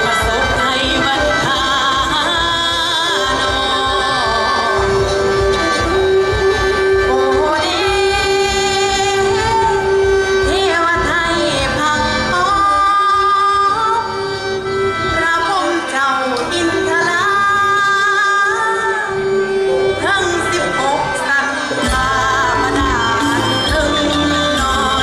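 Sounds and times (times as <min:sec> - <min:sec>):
person singing: 0:00.0 - 0:14.2, 0:15.1 - 0:25.0
folk band playing: 0:00.0 - 0:25.0.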